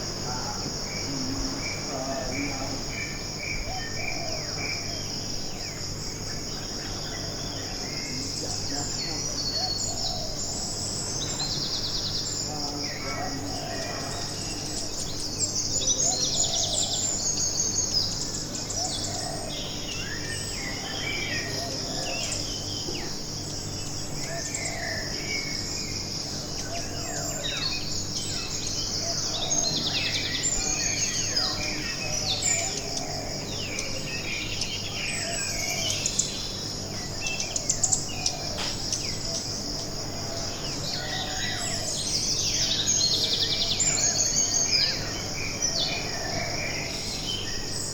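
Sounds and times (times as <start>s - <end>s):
birds chirping and calling: 0.0s - 47.9s
pulsing insect drone: 0.0s - 47.9s.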